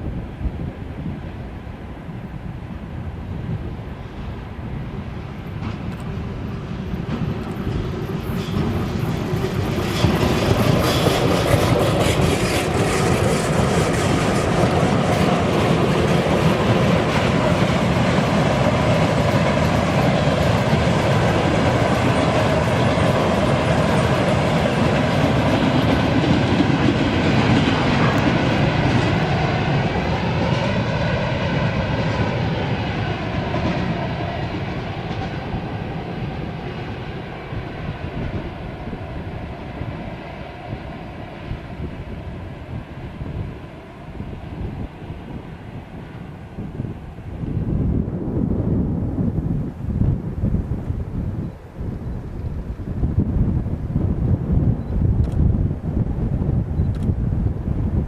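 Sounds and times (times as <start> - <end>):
train passing on rails: 0.0 - 58.0.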